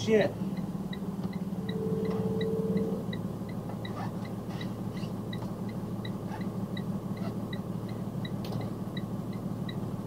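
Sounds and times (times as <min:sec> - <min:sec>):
truck engine humming: 0:00.0 - 0:10.0.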